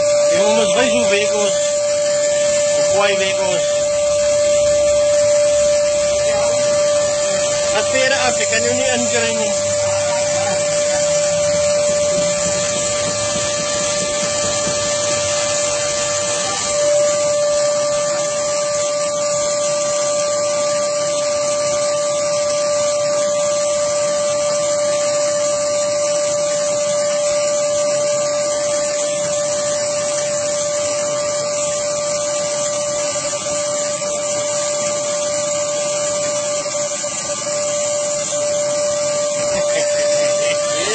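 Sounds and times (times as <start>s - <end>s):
shop vacuum running: 0.0s - 40.9s.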